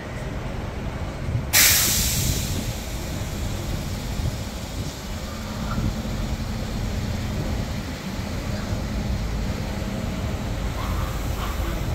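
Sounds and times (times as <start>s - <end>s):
bus engine rumbling: 0.0s - 11.9s.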